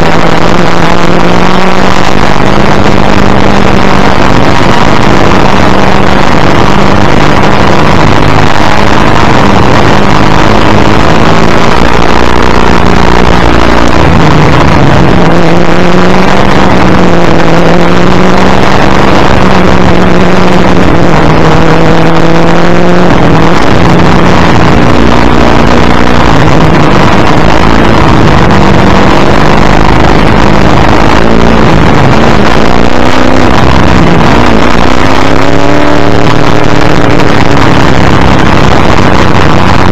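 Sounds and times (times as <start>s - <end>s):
racing car engine revving: 0.0s - 39.9s
wind and road noise: 0.0s - 39.9s.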